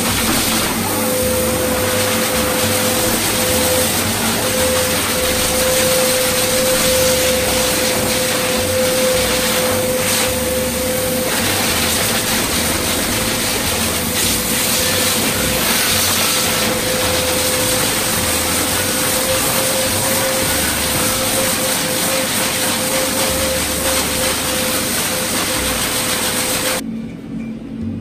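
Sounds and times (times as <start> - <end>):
blower dryer rushing air: 0.0 - 26.9.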